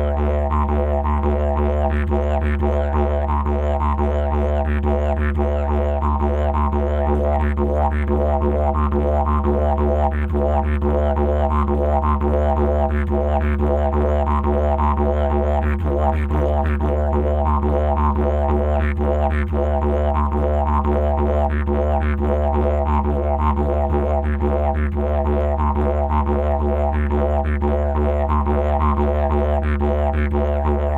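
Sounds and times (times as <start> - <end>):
didgeridoo drone: 0.0 - 30.9.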